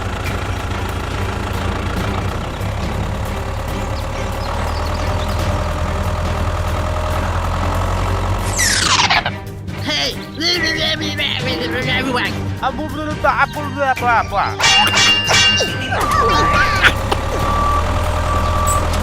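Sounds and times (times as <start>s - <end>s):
engine idling: 0.0s - 13.4s, 14.6s - 19.0s.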